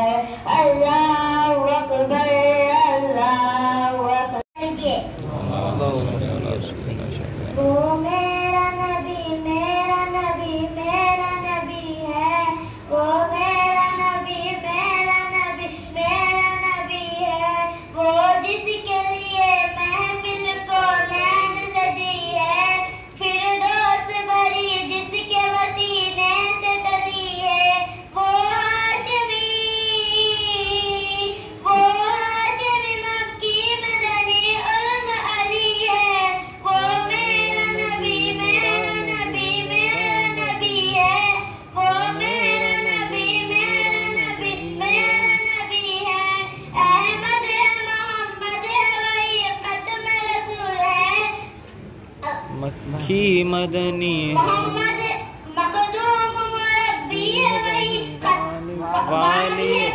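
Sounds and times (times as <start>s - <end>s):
girl singing into a microphone: 0.0s - 5.2s, 7.5s - 52.5s, 54.4s - 59.9s.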